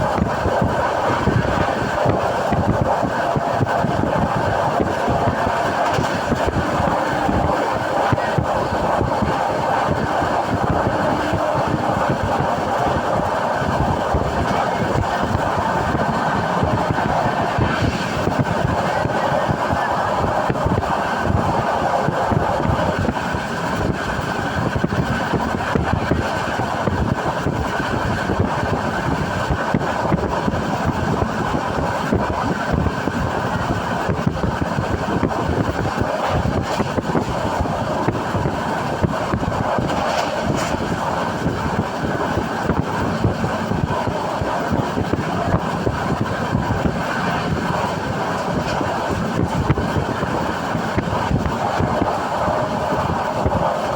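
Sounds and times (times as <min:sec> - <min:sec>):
train rumbling and rattling: 0:00.0 - 0:53.9.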